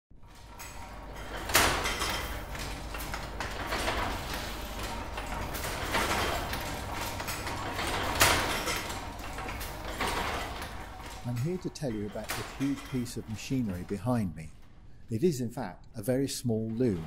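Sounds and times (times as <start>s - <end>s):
loom mechanical clatter: 0.1s - 14.9s, 16.4s - 17.0s
heavy loom clack: 0.2s - 14.8s, 16.4s - 17.0s.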